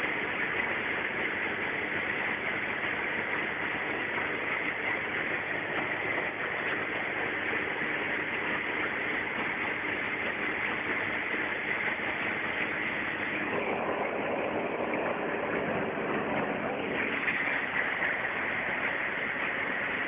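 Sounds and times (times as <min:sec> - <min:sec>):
aircraft engine and propeller drone: 0:00.0 - 0:20.0
rushing air: 0:00.0 - 0:20.0.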